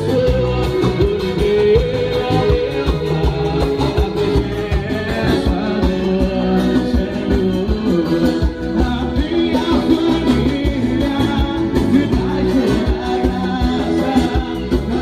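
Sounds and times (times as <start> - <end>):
guitar: 0.0 - 15.0
live band playing latin music: 0.0 - 15.0
person singing: 0.0 - 15.0
steady drum beat: 0.0 - 15.0.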